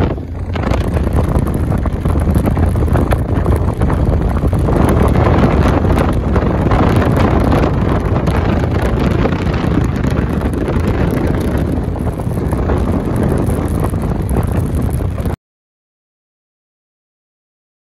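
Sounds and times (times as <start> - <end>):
road and vehicle rumble: 0.0 - 15.4
wind buffeting microphone: 0.0 - 15.4.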